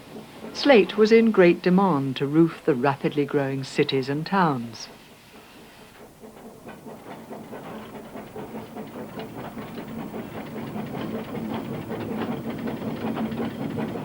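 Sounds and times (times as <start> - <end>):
steam train clatter and exhaust: 0.0 - 14.0.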